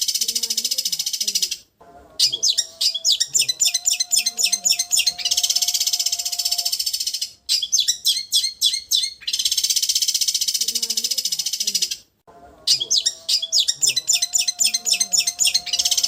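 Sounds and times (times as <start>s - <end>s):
shrike buzzing trill and chirps: 2.2s - 11.8s, 12.7s - 16.0s.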